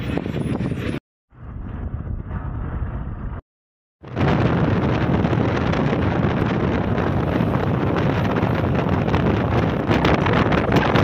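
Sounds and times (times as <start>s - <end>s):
wind buffeting microphone: 0.0s - 3.4s, 4.0s - 11.0s.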